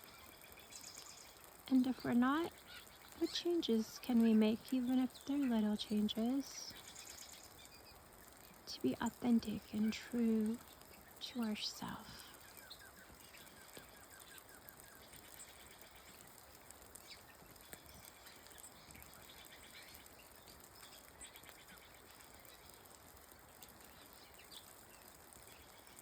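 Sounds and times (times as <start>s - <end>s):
bird chirping: 0.0s - 26.0s
raindrops ticking: 0.0s - 26.0s
soft rain falling: 0.0s - 26.0s.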